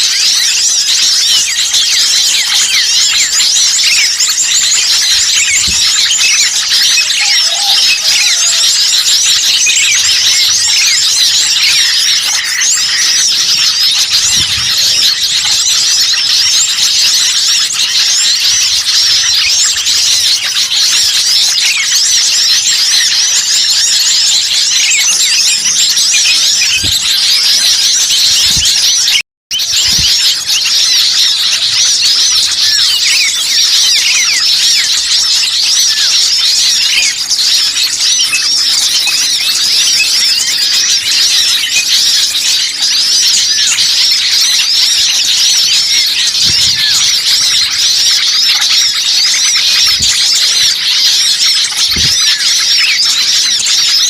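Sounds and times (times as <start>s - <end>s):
small birds chirping chorus: 0.0s - 54.0s.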